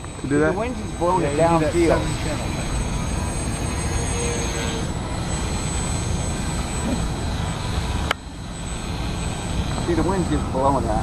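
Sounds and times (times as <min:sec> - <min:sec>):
electric model airplane motor whine: 0:00.0 - 0:11.0.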